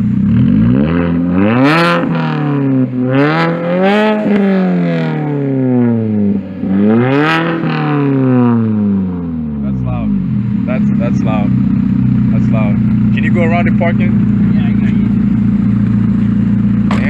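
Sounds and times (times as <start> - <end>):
loud car engine revving: 0.0 - 17.0.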